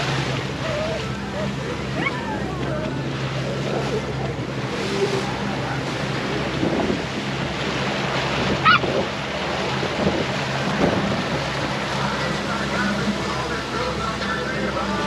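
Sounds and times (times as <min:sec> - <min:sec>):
wind buffeting microphone: 0:00.0 - 0:14.8
faint low engine hum: 0:00.0 - 0:15.0
water washing along boat hull: 0:00.0 - 0:15.0.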